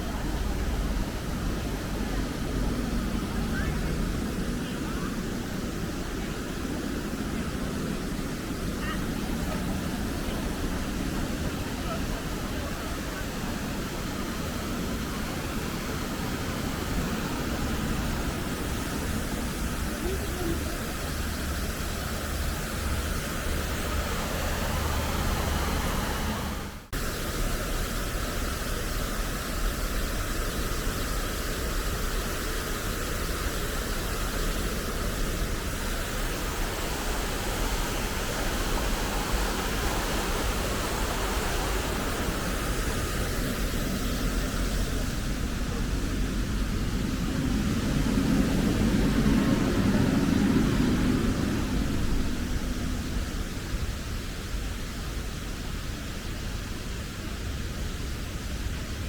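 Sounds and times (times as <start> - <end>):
traffic hiss: 0.0 - 59.0.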